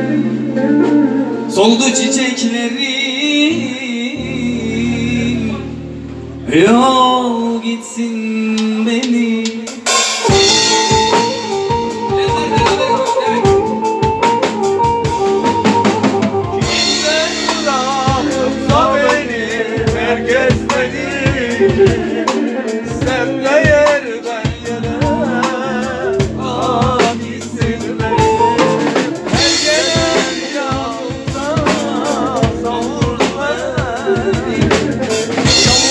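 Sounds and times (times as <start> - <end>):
drum kit beats: 0.0 - 2.9, 8.5 - 35.9.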